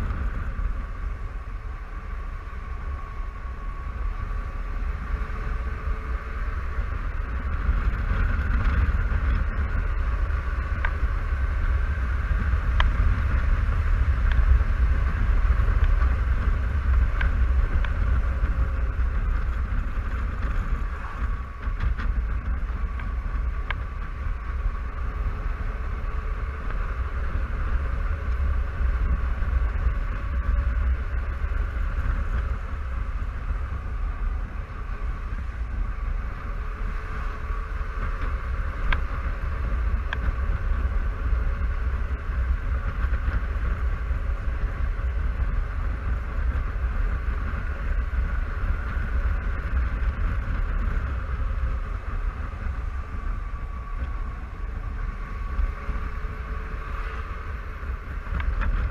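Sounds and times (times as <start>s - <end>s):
scooter engine droning: 0.0s - 58.9s
wind rumbling on microphone: 0.0s - 58.9s.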